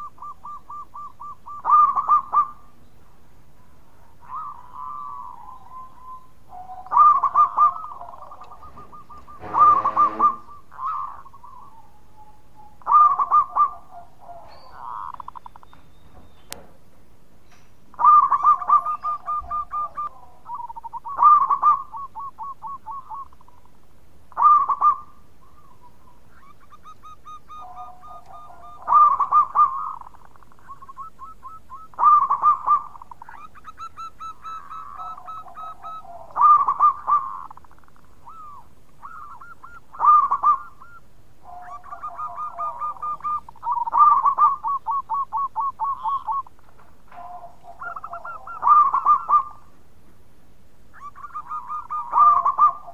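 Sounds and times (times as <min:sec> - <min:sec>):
dove cooing: 0:00.0 - 0:02.9, 0:03.5 - 0:16.6, 0:17.9 - 0:49.8, 0:50.9 - 0:52.9
faint trilled bird phrases: 0:00.0 - 0:16.6, 0:17.9 - 0:49.7, 0:50.9 - 0:52.9.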